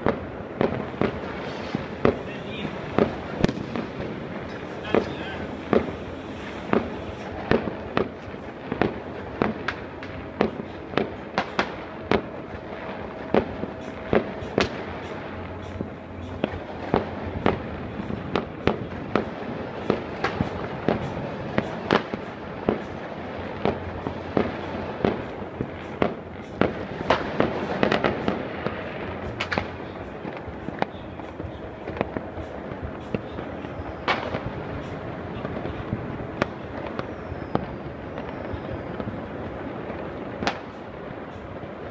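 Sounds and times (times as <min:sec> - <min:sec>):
distant fireworks explosions: 0:00.0 - 0:41.9
firecrackers bangs and pops: 0:00.0 - 0:41.9.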